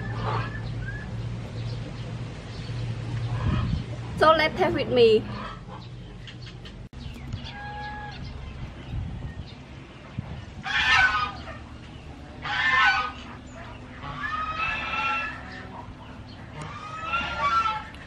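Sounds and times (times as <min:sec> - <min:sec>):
chickens calling: 0:00.0 - 0:04.2, 0:05.2 - 0:18.0.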